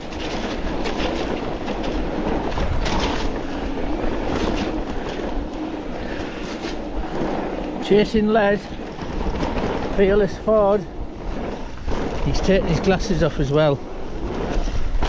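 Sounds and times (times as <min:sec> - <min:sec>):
bike rattling over bumps: 0:00.0 - 0:15.0
bike tyres crunching on wet gravel: 0:00.0 - 0:15.0.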